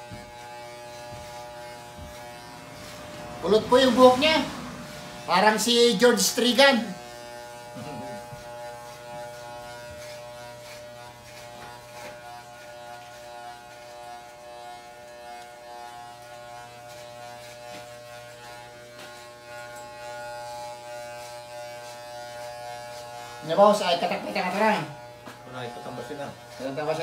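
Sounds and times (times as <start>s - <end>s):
electric hair clippers buzzing: 0.0s - 27.0s.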